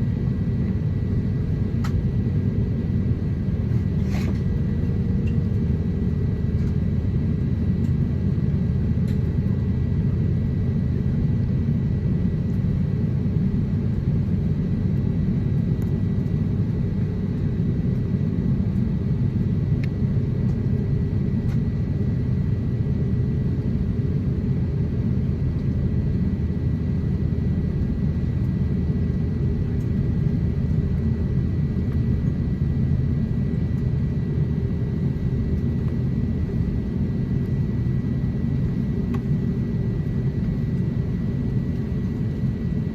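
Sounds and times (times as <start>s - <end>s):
aircraft cabin low rumble: 0.0s - 42.9s.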